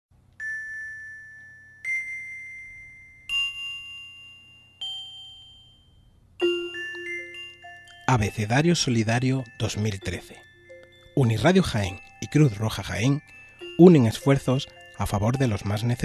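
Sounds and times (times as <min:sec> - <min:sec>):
bell-like mallet percussion notes: 0:00.4 - 0:16.0.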